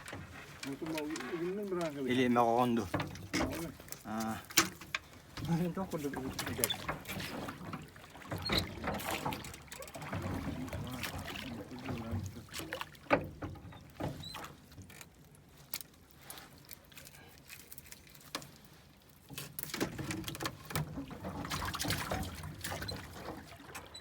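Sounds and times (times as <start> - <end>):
light water splashing: 0.0 - 24.0.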